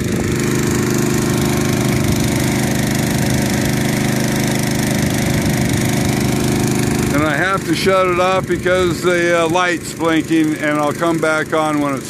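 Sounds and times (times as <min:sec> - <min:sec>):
water pump engine running: 0:00.0 - 0:12.0.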